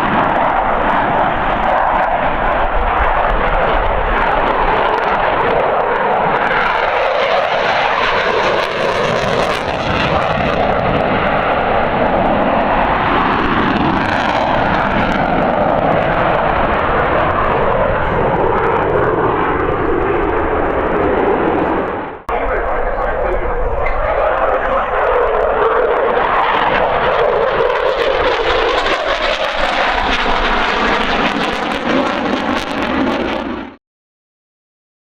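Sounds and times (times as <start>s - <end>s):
jet engine roar: 0.0s - 33.8s.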